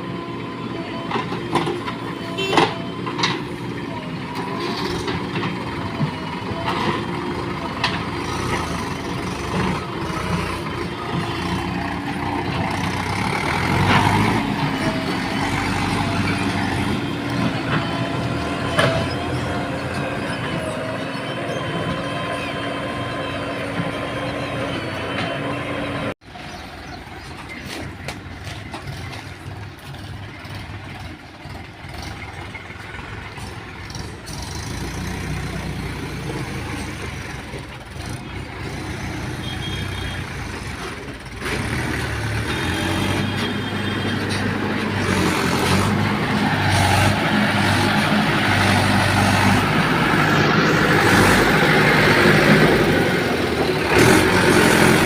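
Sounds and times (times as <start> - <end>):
heavy diesel machinery engines: 0.0 - 55.0.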